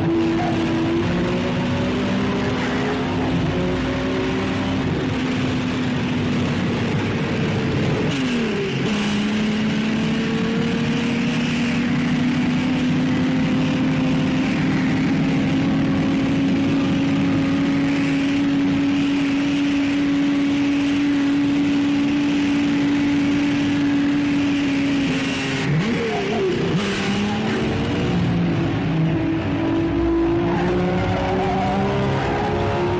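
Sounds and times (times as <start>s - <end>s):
racing car engine running hard: 0.0s - 32.9s.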